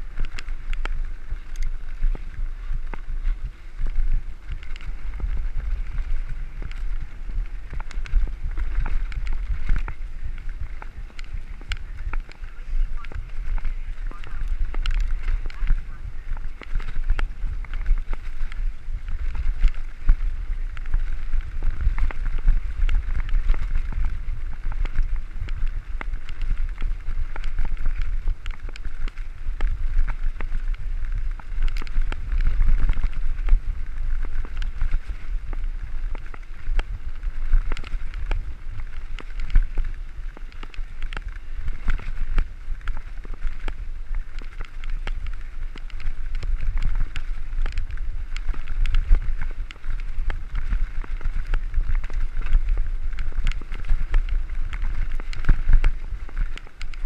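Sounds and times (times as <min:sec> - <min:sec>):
bike rattling and knocking: 0:00.0 - 0:57.0
bike tyres crunching on gravel: 0:00.0 - 0:57.0
wind rumble on microphone: 0:00.0 - 0:57.0.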